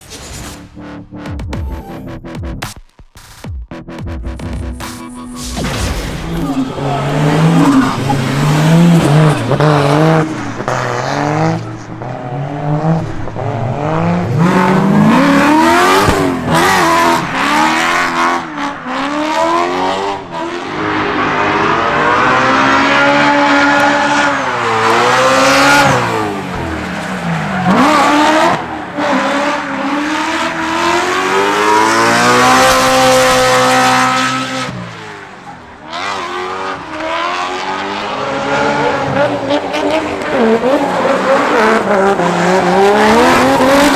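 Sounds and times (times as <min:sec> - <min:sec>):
car engine revving hard: 0:03.8 - 0:43.9.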